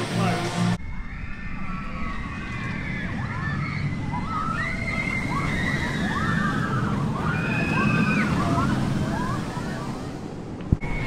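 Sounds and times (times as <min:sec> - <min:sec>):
roller coaster rumbling on track: 0:00.0 - 0:11.0
riders screaming: 0:00.8 - 0:10.2.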